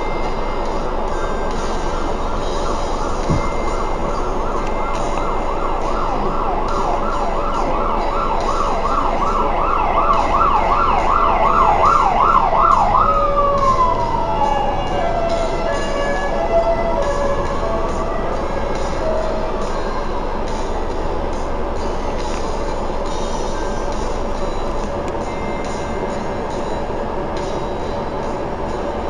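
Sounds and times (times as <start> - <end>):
fire engine siren: 0.0 - 29.0.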